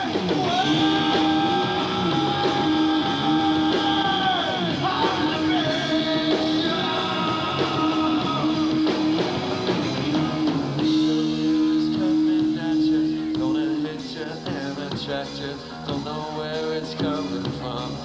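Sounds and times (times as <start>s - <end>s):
drums: 0.0s - 18.0s
rock guitar: 0.0s - 18.0s.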